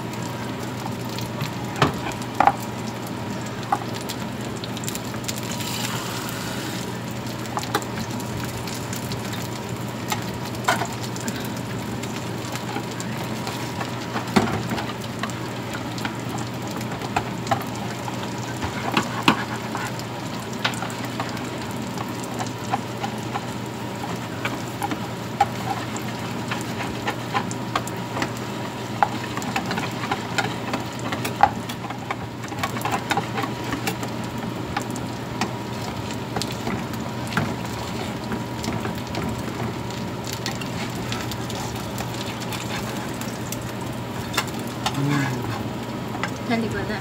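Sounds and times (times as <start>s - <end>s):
hot oil sizzling in frying pans: 0.0s - 47.0s
oil popping and crackling: 0.0s - 47.0s.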